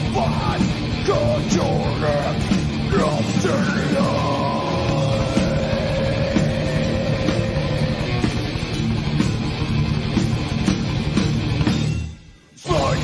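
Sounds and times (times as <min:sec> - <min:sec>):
electric guitar: 0:00.0 - 0:12.0
drums: 0:00.0 - 0:13.0.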